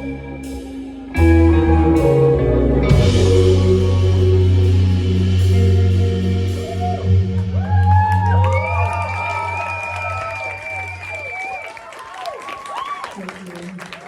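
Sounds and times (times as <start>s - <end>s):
live rock band playing: 0.0s - 11.3s.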